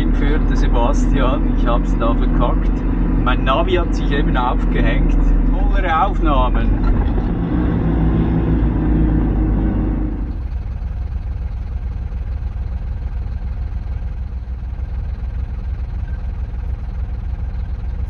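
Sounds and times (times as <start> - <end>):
truck diesel engine drone: 0.0 - 18.0.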